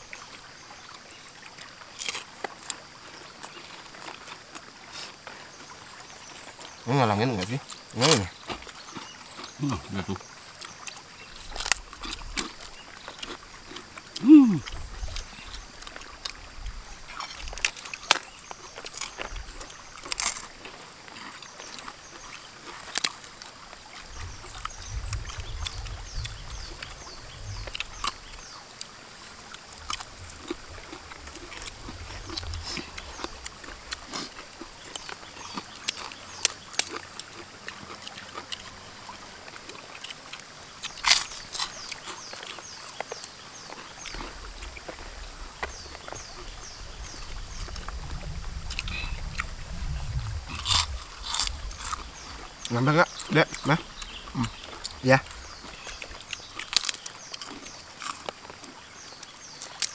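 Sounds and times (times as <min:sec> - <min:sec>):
chewing crunches: 0:00.9 - 0:59.9.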